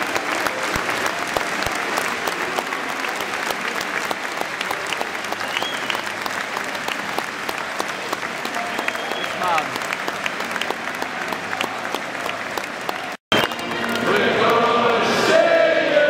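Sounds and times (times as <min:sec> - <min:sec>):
sharp hand claps nearby: 0:00.0 - 0:14.9
crowd applauding: 0:00.0 - 0:16.0.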